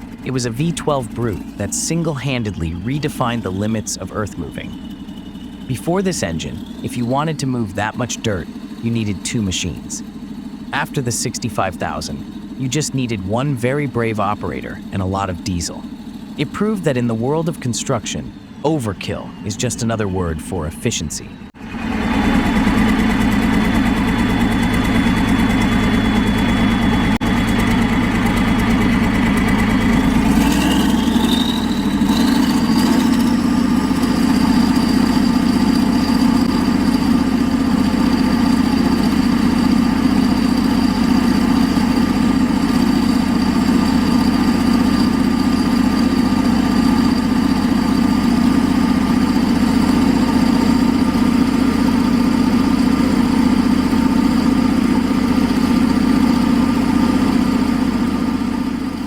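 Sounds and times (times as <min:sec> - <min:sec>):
diesel engine running: 0:00.0 - 0:59.0
engine whine climbing in pitch: 0:00.0 - 0:59.0.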